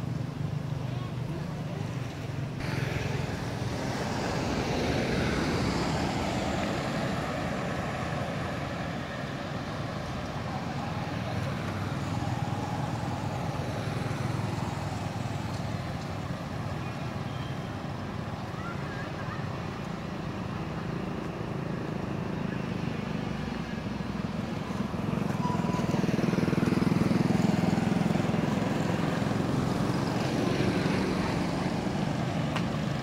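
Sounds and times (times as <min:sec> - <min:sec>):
road noise hum: 0:00.0 - 0:33.0
vehicle passing: 0:02.6 - 0:17.3, 0:18.1 - 0:33.0.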